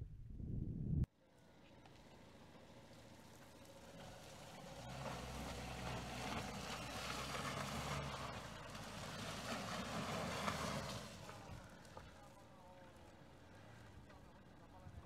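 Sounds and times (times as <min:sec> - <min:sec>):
car engine running under load: 0:01.2 - 0:15.0.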